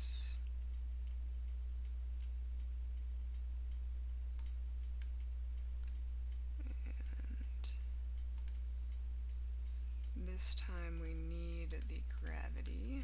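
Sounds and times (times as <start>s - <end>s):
low electrical hum: 0.0s - 13.0s
computer mouse clicks: 0.4s - 6.4s, 8.2s - 13.0s.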